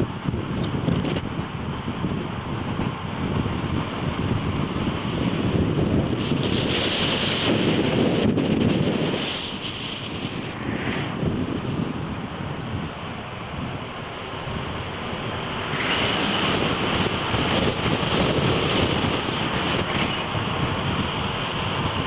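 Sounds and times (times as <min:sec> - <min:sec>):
road and engine noise: 0:00.0 - 0:22.0
wind rushing over microphone: 0:00.0 - 0:22.0.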